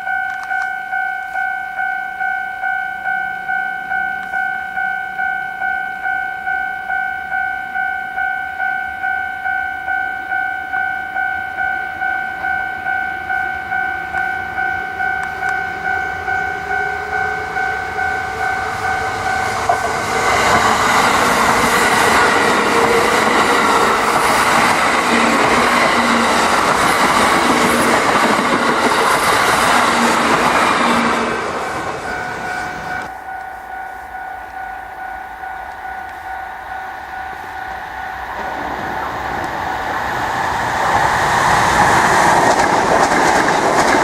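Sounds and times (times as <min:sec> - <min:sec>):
level crossing warning bell: 0:00.0 - 0:44.0
train rumble and rail noise: 0:00.0 - 0:44.0.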